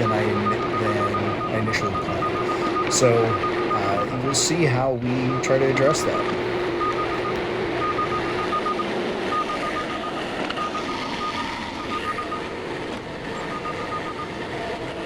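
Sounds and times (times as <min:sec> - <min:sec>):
rapid high-pitched beeping: 0:00.0 - 0:14.4
tractor engine running: 0:00.0 - 0:15.0.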